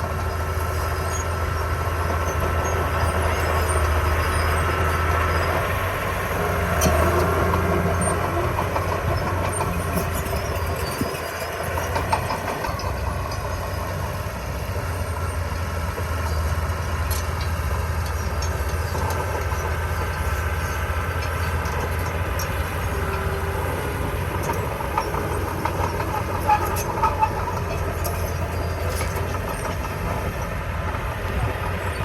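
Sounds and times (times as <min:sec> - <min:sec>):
heavy diesel machinery droning: 0:00.0 - 0:32.0
metallic clanks of crawler tracks: 0:00.0 - 0:32.0.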